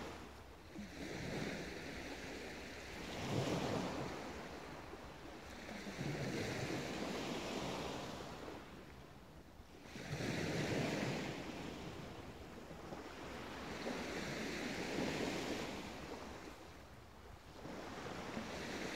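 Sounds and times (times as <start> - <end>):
small waves breaking on beach: 0.0 - 18.9.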